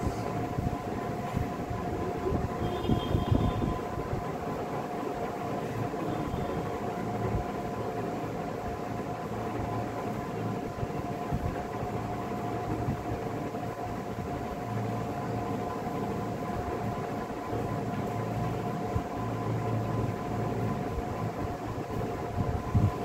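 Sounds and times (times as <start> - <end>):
background hum and rumble: 0.0 - 23.0.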